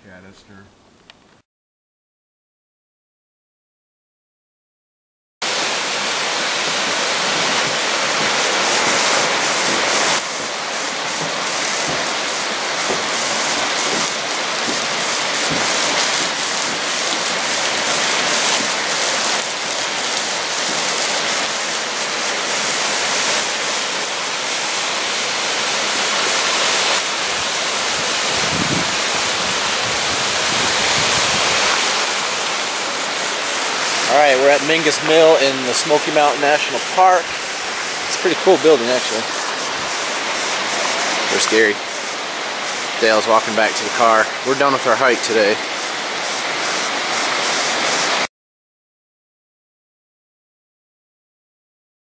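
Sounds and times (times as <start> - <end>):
water splashing onto rocks: 5.5 - 48.2.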